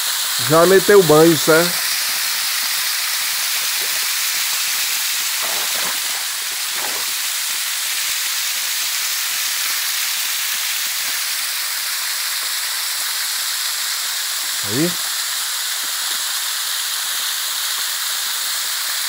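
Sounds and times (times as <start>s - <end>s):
waterfall splashing on rocks: 0.0s - 19.0s.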